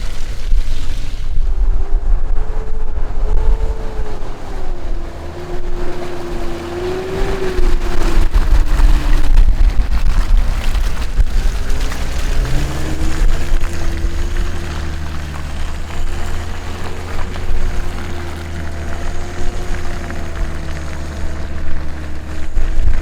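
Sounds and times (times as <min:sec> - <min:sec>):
low rumble: 0:00.0 - 0:23.0
off-road vehicle engine: 0:00.0 - 0:23.0
wind buffeting microphone: 0:00.0 - 0:23.0.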